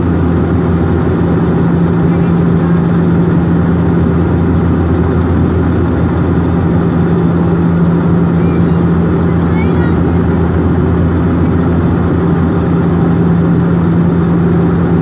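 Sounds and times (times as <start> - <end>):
turboprop engines droning in cabin: 0.0 - 15.0.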